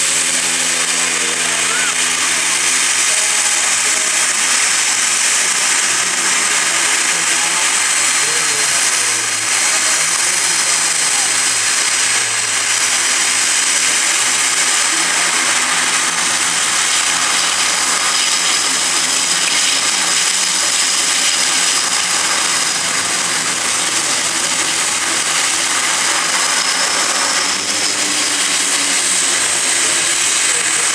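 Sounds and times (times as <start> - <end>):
faint high whine: 0.0 - 30.9
jet turbine engines rushing: 0.0 - 30.9.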